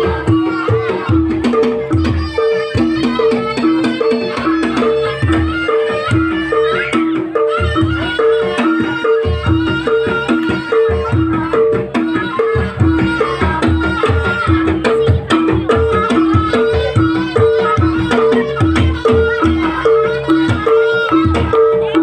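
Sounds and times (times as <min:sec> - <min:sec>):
hand drums beating: 0:00.0 - 0:22.0
high wavering melody: 0:00.0 - 0:22.0.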